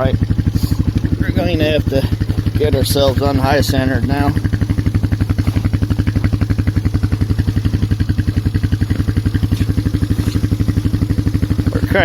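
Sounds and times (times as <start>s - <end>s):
atv engine running at low revs: 0.0s - 12.0s.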